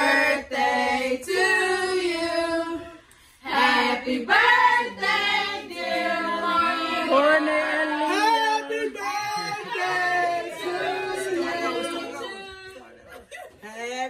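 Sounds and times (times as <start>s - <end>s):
group singing birthday song: 0.0s - 13.0s.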